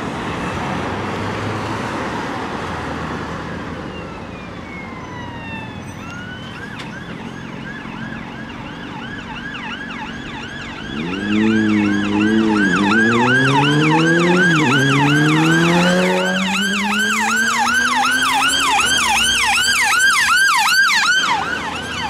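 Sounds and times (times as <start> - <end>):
road traffic noise: 0.0 - 22.0
emergency vehicle siren: 2.6 - 22.0.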